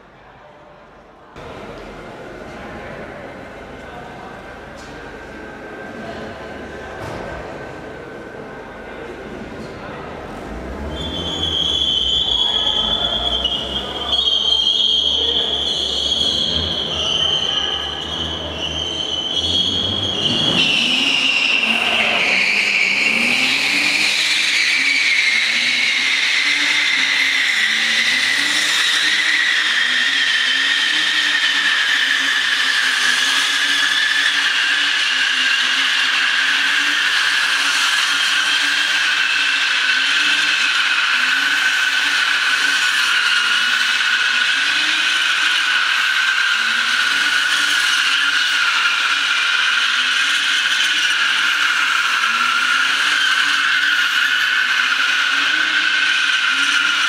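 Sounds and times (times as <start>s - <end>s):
car engine revving: 1.4s - 57.0s
tyres squealing: 10.4s - 57.0s.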